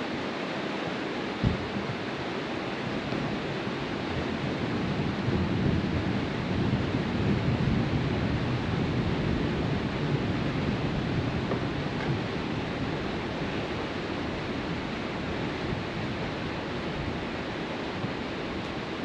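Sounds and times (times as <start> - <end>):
low gusty buffeting: 0.0 - 19.0
wind noise on microphone: 0.0 - 19.0.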